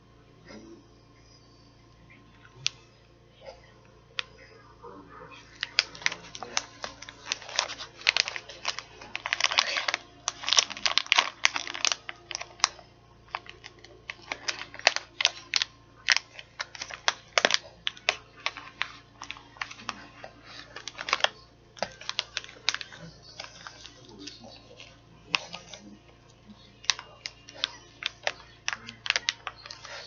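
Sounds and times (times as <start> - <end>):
plastic packaging crinkling: 5.4 - 30.0.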